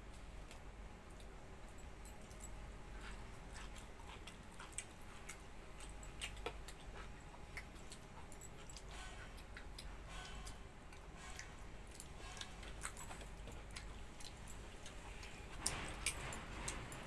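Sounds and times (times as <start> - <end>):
chewing: 0.1 - 17.0.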